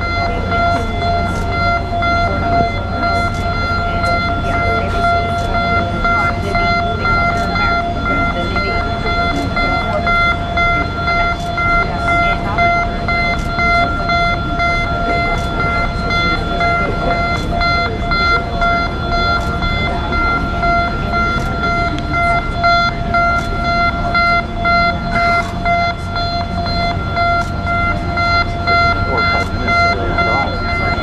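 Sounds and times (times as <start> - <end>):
continuous low rumble: 0.0 - 31.0
electronic warning alarm beeping: 0.0 - 31.0.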